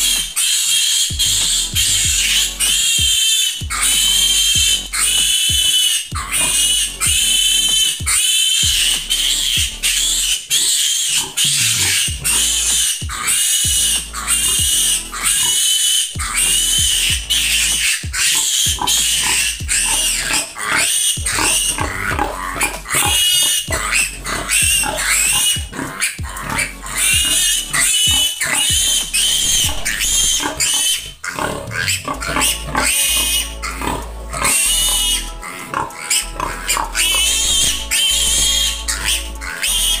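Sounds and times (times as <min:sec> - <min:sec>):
piglet squealing: 0:00.0 - 0:40.0.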